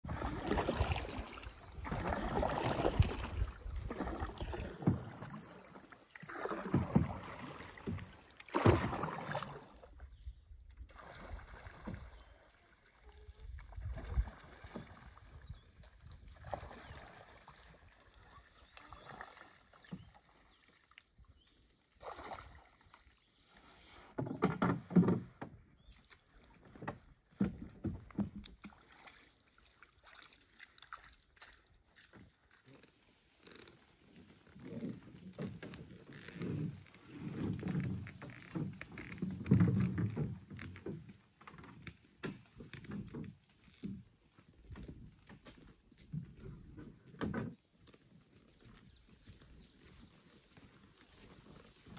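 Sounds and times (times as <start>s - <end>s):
paddle strokes swishing in water: 0.0s - 51.9s
wading through shallow water: 0.0s - 51.9s.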